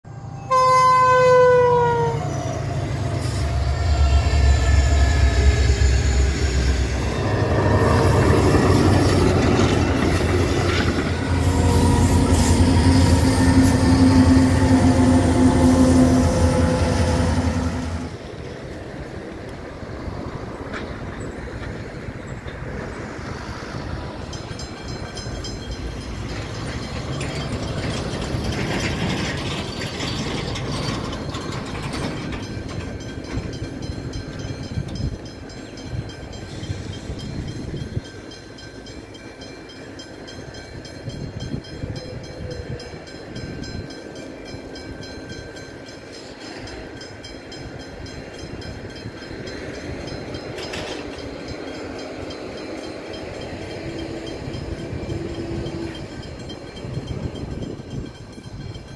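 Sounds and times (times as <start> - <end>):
train wheels clicking and ringing: 2.3 - 17.1, 18.1 - 58.9.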